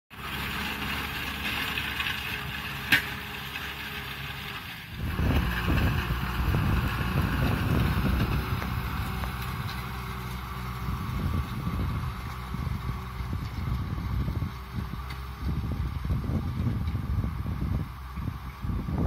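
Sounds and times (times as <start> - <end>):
tractor diesel engine under load: 0.1 - 19.0.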